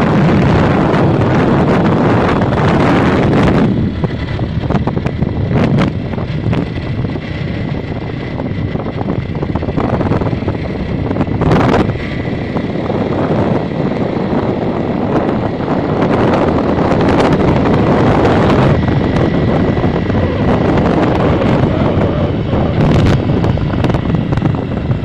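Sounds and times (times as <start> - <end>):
engine and road rumble: 0.0 - 25.0
wind buffeting microphone: 0.0 - 25.0.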